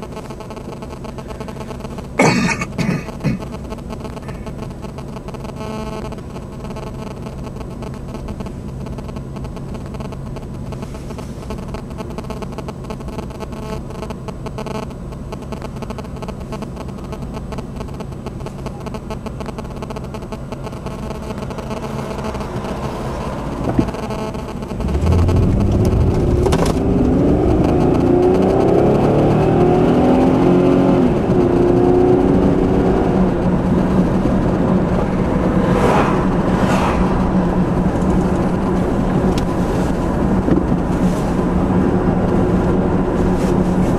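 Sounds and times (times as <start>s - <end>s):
car engine: 0.0s - 43.9s
road noise: 0.0s - 43.9s.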